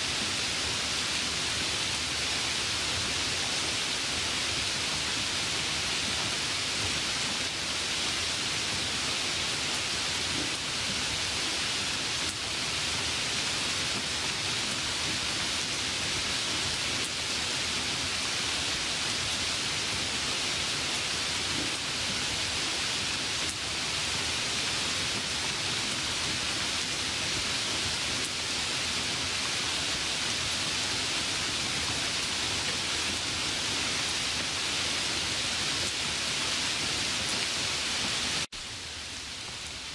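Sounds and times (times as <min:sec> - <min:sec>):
steady bright hiss: 0:00.0 - 0:39.9.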